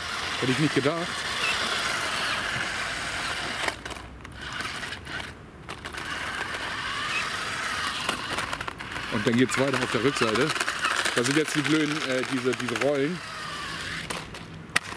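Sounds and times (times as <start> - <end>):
toy car motors whirring: 0.0 - 14.9.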